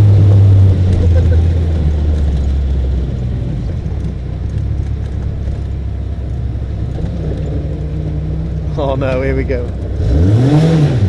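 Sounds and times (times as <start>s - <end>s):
buggy engine rumbling: 0.0s - 11.0s.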